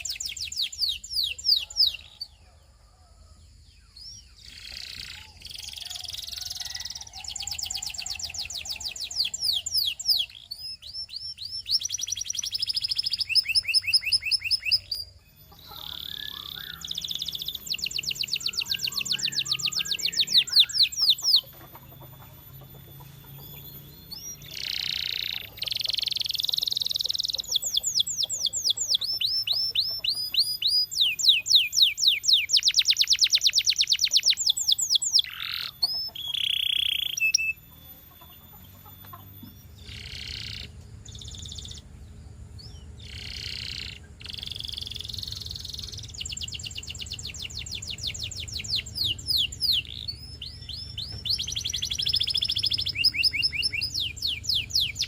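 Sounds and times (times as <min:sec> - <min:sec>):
canary singing: 0:00.0 - 0:03.0, 0:03.7 - 0:55.0.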